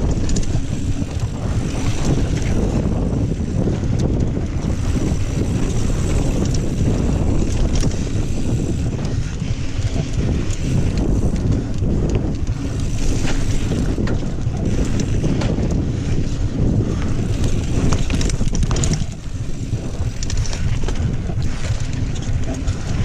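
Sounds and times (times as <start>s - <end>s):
bike clicks and knocks: 0.0s - 23.0s
wind buffeting microphone: 0.0s - 23.0s
bike tyres hissing on dirt: 0.1s - 21.8s.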